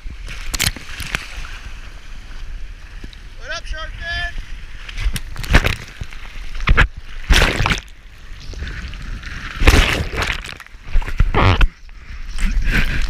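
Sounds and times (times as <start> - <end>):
waves splashing and sloshing: 0.0 - 13.0.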